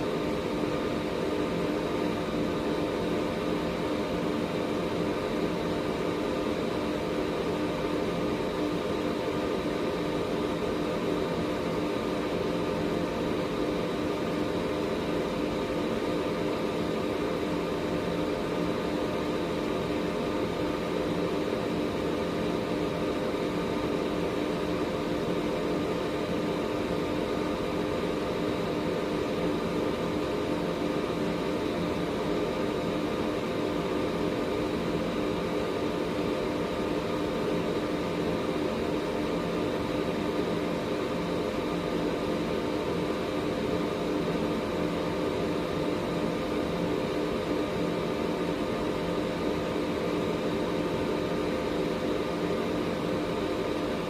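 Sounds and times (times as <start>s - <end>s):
air purifier fan running: 0.0s - 54.0s.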